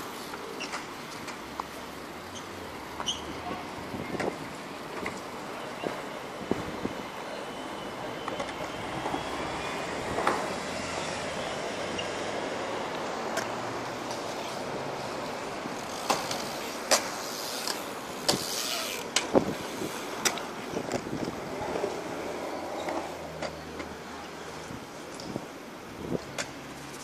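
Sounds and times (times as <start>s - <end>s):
bike tyres rolling on concrete: 0.0s - 27.0s.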